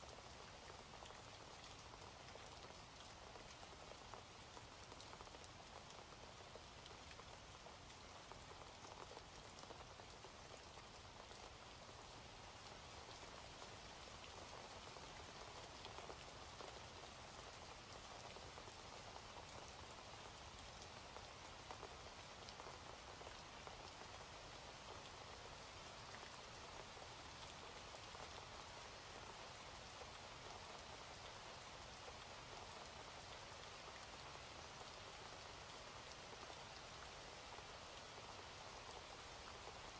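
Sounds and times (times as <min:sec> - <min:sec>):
faint rain falling: 0:00.0 - 0:39.9.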